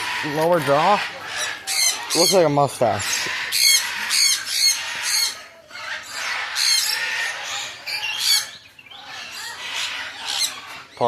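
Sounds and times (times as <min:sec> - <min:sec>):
parakeets screeching and squawking: 0:00.0 - 0:11.0.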